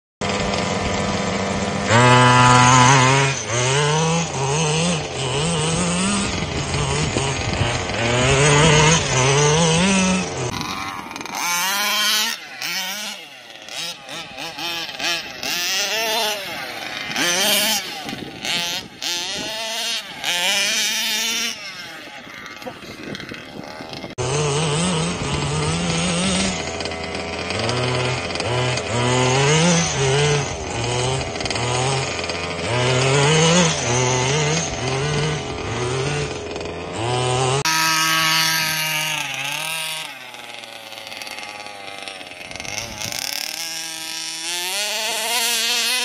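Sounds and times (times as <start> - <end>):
two-stroke engines revving: 0.2 - 46.0.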